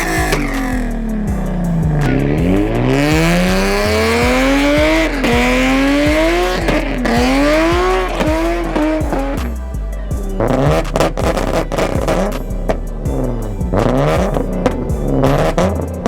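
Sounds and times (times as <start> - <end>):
car engine revving hard: 0.0 - 9.5, 10.4 - 16.0.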